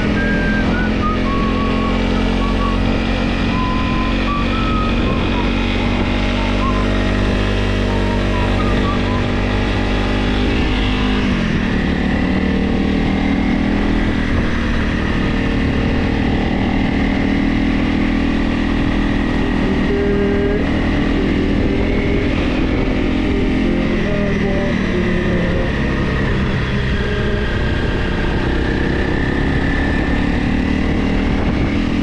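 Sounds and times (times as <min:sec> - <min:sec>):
motorcycle engine while riding: 0:00.0 - 0:32.0.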